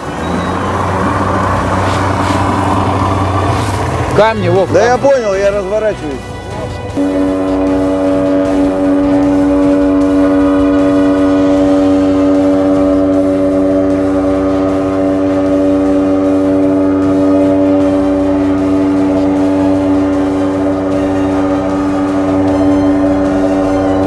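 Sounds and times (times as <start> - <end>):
low rumble: 0.0 - 24.0
outboard motor droning: 0.0 - 24.0.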